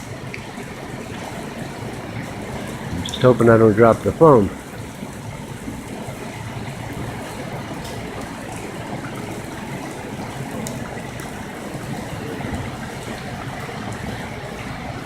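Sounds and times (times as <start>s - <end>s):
heavy rain falling: 0.0s - 15.0s
sharp ticks of raindrops: 0.0s - 15.0s.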